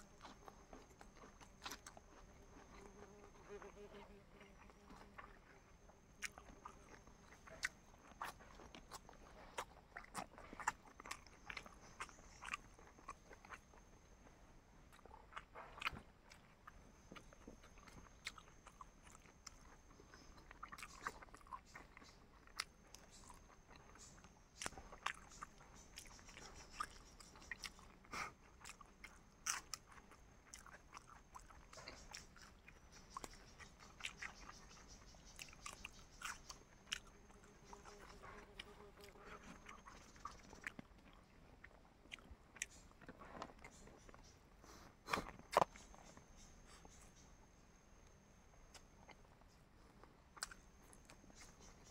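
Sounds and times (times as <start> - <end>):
person chewing crunchy food: 0.0 - 51.9.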